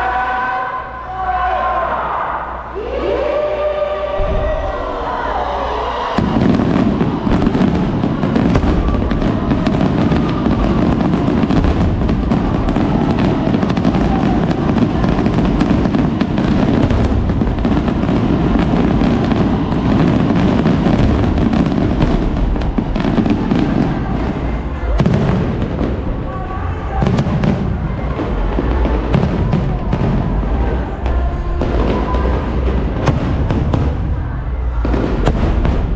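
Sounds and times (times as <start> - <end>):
fireworks bangs and crackling: 5.9 - 35.9.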